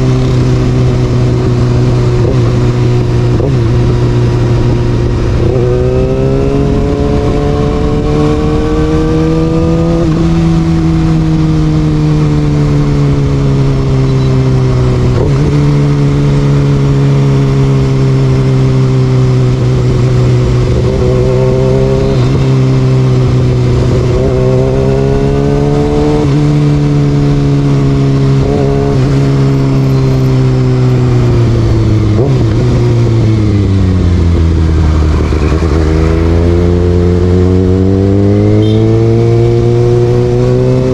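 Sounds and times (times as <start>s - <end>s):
low wind rumble: 0.0s - 40.9s
motorcycle engine revving: 0.0s - 40.9s.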